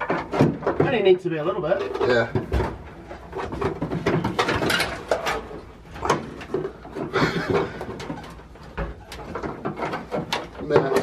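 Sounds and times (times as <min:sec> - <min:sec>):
clicks and knocks of car parts: 0:00.0 - 0:01.2, 0:01.8 - 0:11.0.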